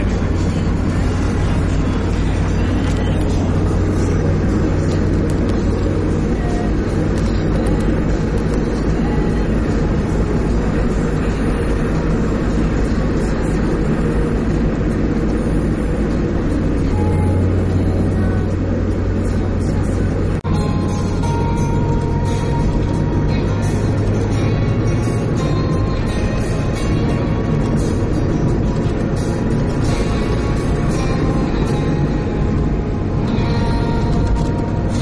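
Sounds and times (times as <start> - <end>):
car cabin road and engine noise: 0.0 - 35.0.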